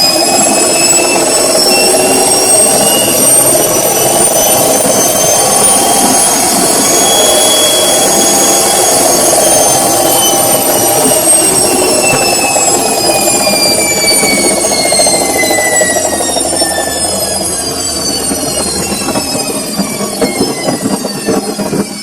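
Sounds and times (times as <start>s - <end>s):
high motor whine: 0.0s - 22.0s.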